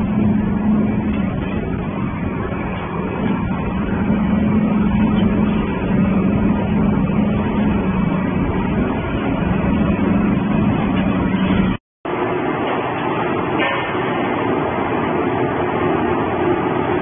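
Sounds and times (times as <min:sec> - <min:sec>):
low hum: 0:00.0 - 0:17.0
shredder and conveyor din: 0:00.0 - 0:17.0.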